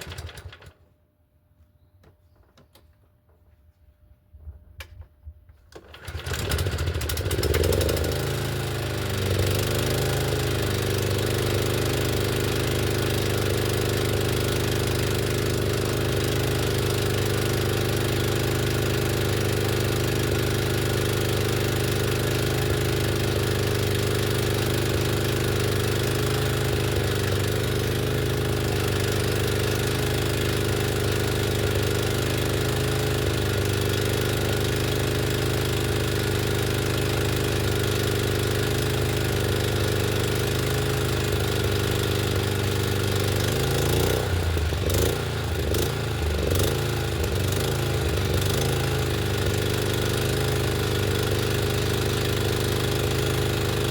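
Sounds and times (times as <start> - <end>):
mower engine running: 0.0 - 0.8, 5.8 - 53.9.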